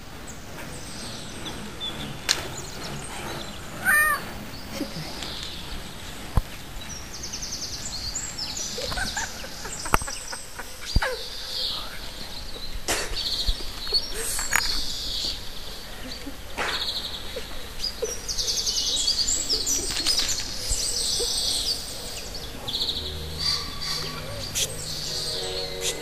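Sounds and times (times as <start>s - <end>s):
small birds chirping and trilling: 0.0s - 26.0s.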